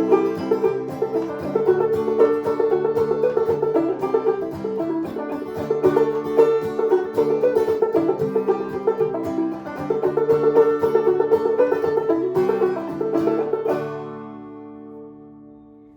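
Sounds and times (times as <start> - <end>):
acoustic string band playing: 0.0 - 14.4.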